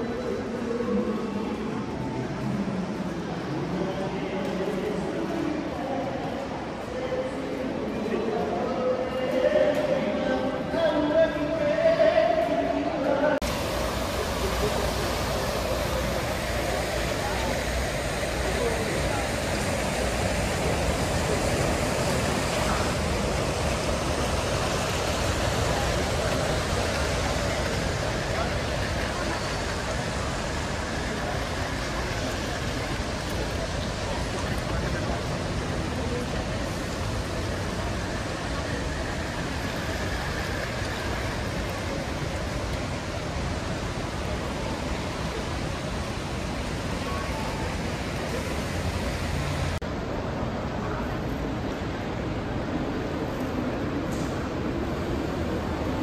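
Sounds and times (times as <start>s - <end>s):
people moving about: 0.0s - 56.0s
steady rushing outdoor noise: 0.0s - 56.0s.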